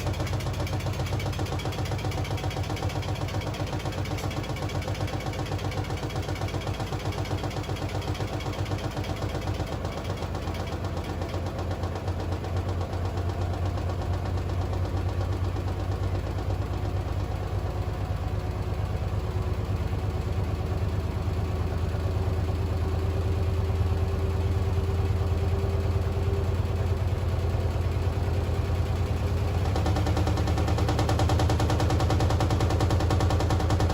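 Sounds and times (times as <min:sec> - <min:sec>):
washing machine hum and rattle: 0:00.0 - 0:33.9.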